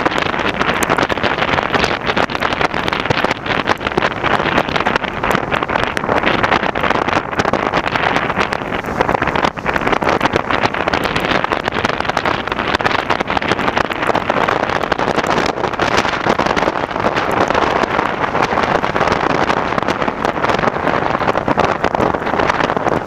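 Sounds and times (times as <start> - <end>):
vehicle road noise on wet road: 0.0 - 23.0
wind buffeting microphone: 0.0 - 23.0.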